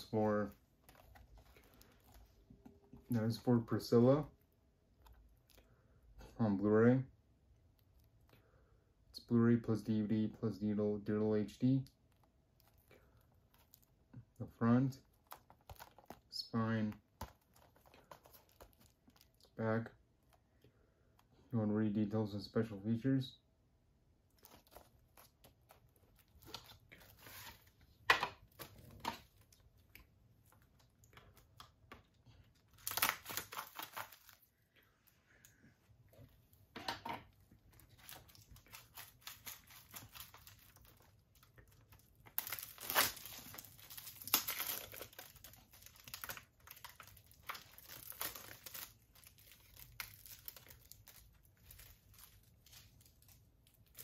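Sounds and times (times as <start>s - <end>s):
plastic wrap crackling and rustling: 0.0s - 6.2s, 11.6s - 21.4s, 24.2s - 35.2s, 35.9s - 54.0s.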